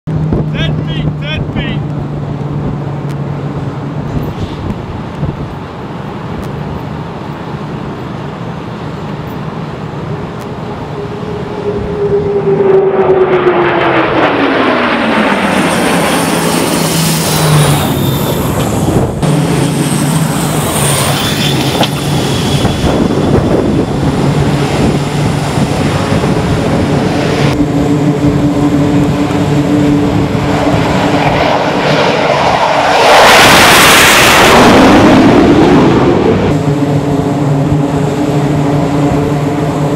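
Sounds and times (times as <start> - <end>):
aircraft passing overhead: 0.1 - 39.9
military aircraft engine noise: 0.1 - 39.9.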